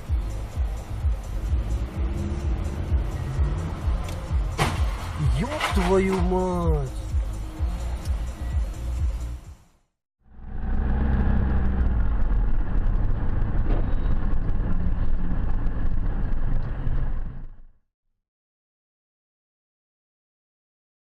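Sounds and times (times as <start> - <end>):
car engine: 0.0 - 17.8
road noise: 0.0 - 17.8.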